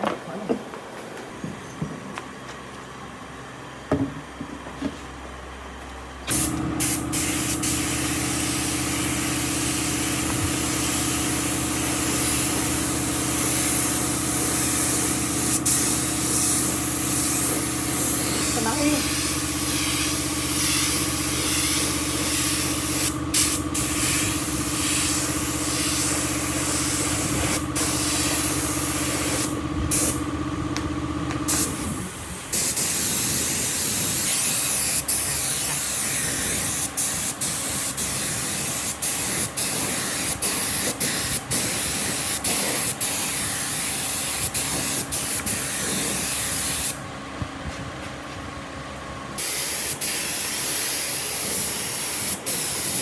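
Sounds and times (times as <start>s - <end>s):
steady hum: 0.2s - 53.0s
spray gun hissing: 6.3s - 30.2s, 31.5s - 47.0s, 49.4s - 53.0s.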